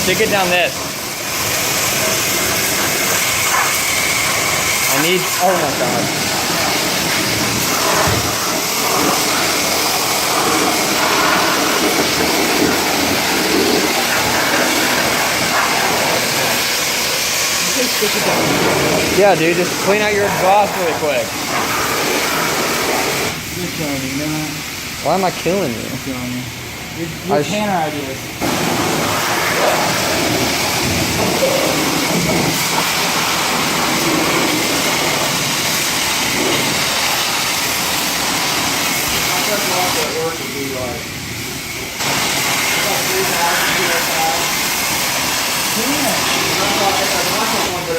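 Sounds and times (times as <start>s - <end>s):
pressure washer spraying water: 0.0s - 47.9s.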